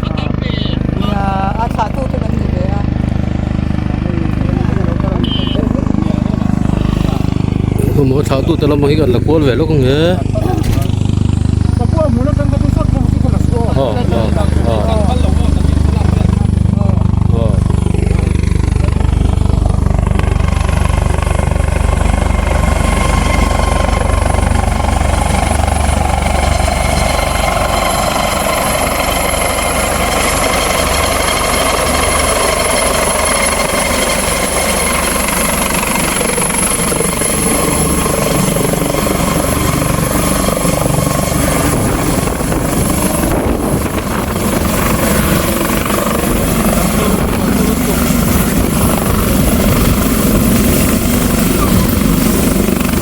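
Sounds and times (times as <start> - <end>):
helicopter turbine whine and rotor: 0.0 - 53.0.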